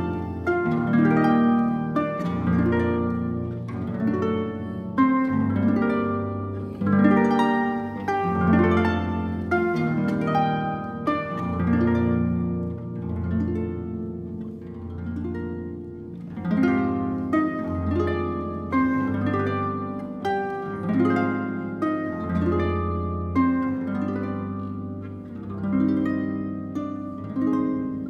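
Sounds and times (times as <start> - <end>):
harp playing: 0.0 - 28.0.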